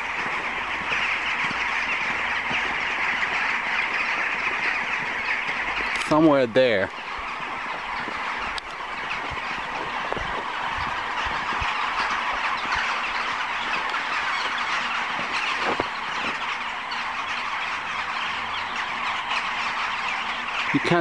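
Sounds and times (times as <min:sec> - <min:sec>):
flock of birds chattering: 0:00.0 - 0:21.0.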